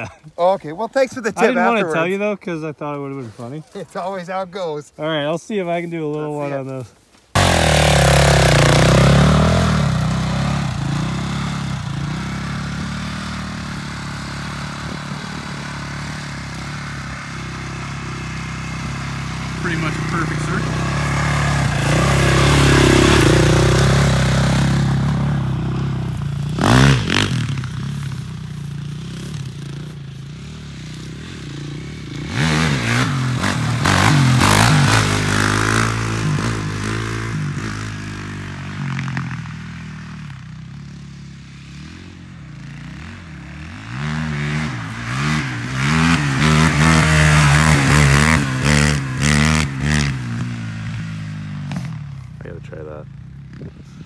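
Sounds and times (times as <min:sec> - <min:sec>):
quad engine revving: 0:07.4 - 0:54.0.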